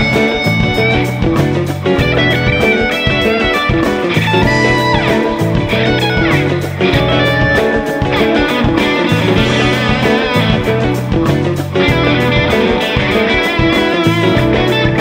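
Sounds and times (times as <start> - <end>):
lead electric guitar: 0.0 - 15.0
rock backing track: 0.0 - 15.0.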